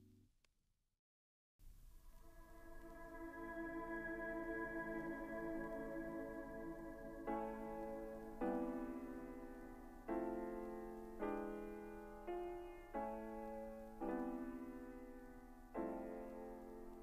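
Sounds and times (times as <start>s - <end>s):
soft piano chords: 1.7s - 17.0s.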